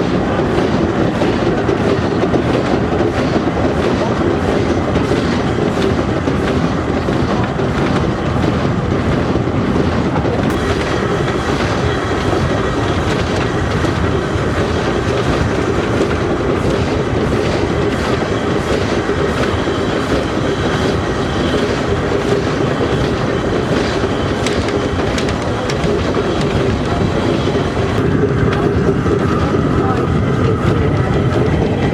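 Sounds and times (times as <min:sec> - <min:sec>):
train rumbling: 0:00.0 - 0:31.9
wheels clicking on track: 0:00.0 - 0:31.9.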